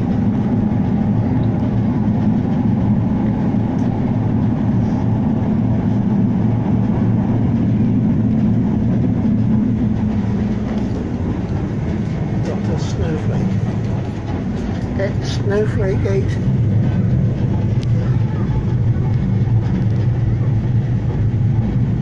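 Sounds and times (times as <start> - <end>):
tram motors and wheels rumbling: 0.0 - 22.0.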